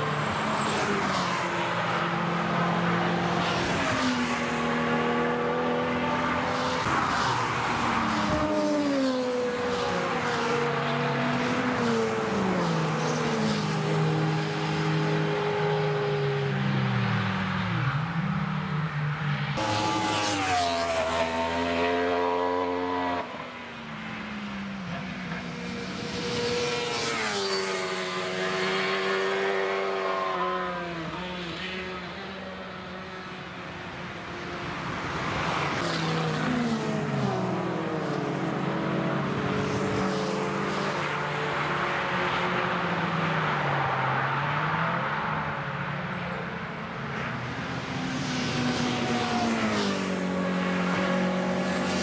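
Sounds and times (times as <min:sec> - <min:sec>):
race cars driving past: 0:00.0 - 0:52.0.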